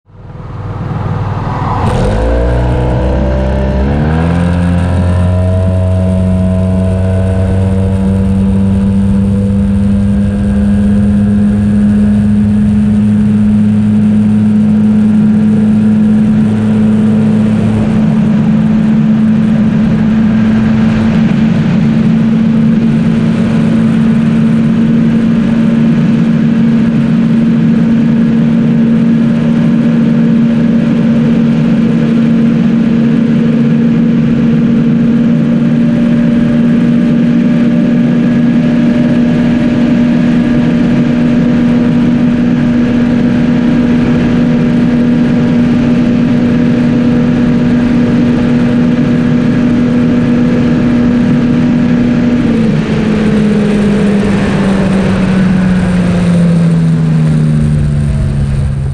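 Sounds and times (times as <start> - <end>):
scooter engine accelerating: 0.1 - 58.9.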